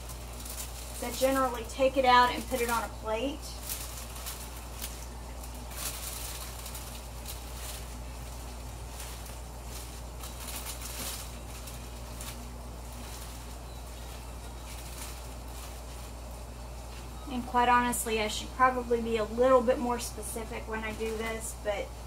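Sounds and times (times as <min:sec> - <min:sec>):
plastic liner crinkling: 0:00.0 - 0:22.0
steady low hum: 0:00.0 - 0:22.0.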